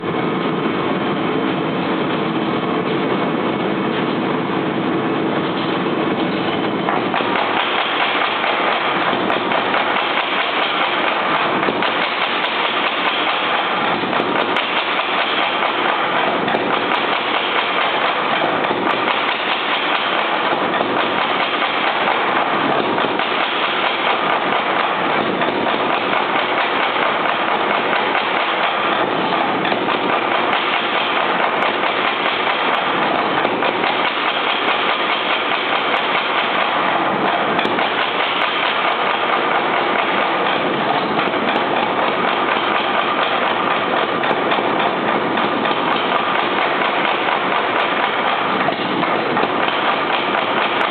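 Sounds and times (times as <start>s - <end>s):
power hammer striking hot steel: 6.3s - 50.9s.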